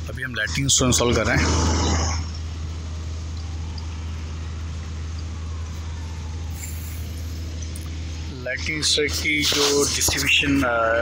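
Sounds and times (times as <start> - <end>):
distant road traffic: 0.0 - 11.0
steady low rumble: 0.0 - 11.0.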